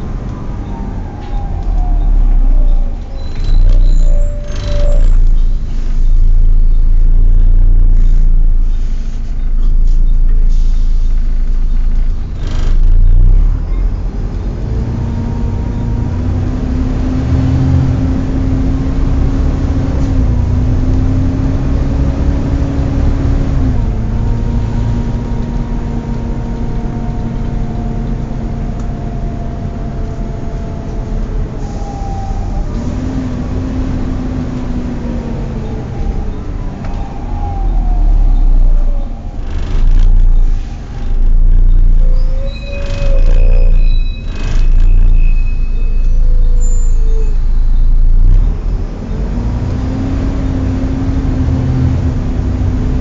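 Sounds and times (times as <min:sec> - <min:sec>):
bus engine rumble and whine: 0:00.0 - 0:53.0.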